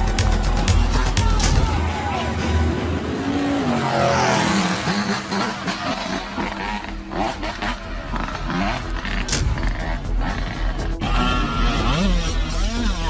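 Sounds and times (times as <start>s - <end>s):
motorcycle engine revving: 2.4s - 13.0s.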